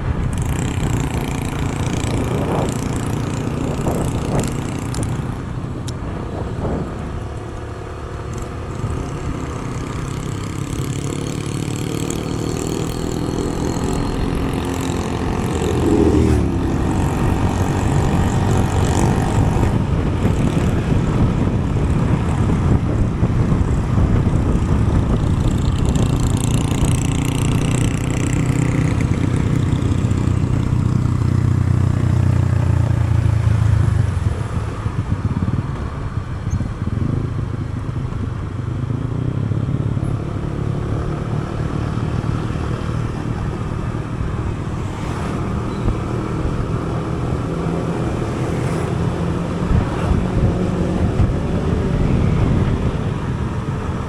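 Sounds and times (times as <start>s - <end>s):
road and wind noise: 0.0s - 54.0s
vehicle engine running: 0.0s - 54.0s.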